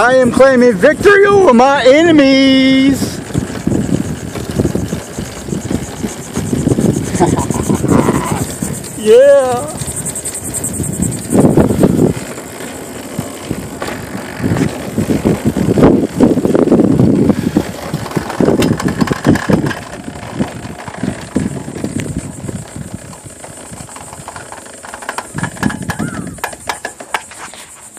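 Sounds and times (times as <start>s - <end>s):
wind buffeting the microphone: 0.0s - 27.3s.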